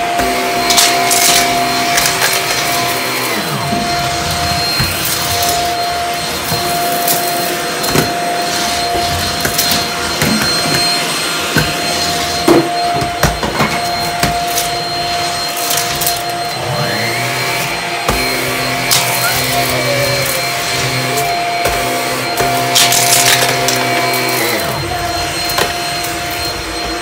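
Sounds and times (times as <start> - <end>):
vacuum motor whine: 0.0 - 27.0.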